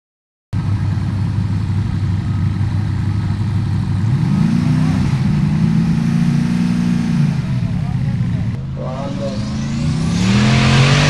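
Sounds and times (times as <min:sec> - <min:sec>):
buggy engine revving: 0:00.6 - 0:11.0.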